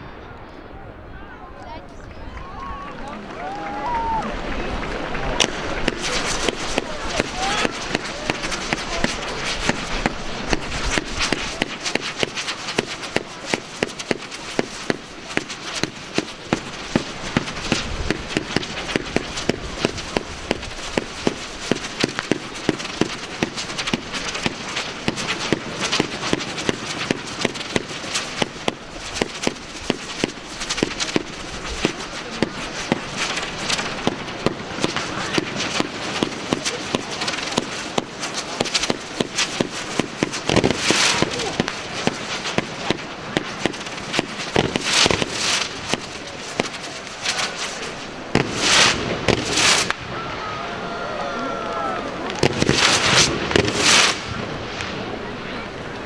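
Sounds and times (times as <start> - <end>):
fireworks popping and crackling: 1.9 - 50.7, 51.3 - 56.0.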